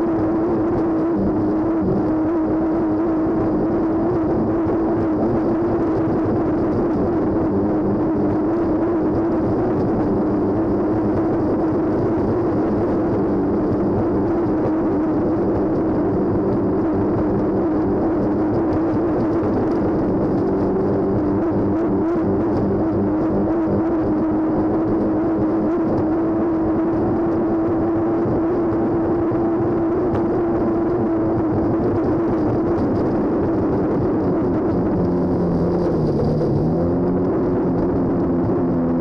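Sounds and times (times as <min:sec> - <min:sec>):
boat engine drone: 0:00.0 - 0:39.0.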